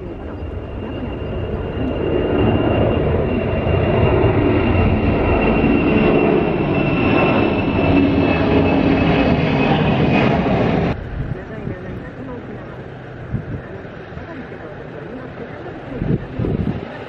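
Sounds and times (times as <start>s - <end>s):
high jet engine whine: 0.0s - 17.0s
jet airliner roar: 0.0s - 17.0s.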